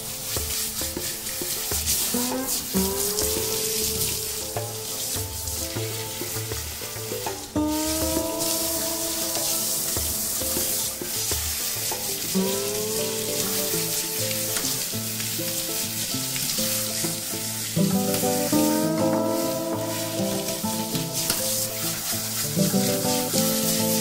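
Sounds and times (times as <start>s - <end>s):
background music: 0.0s - 24.0s
shower sprayer spraying water: 0.0s - 24.0s.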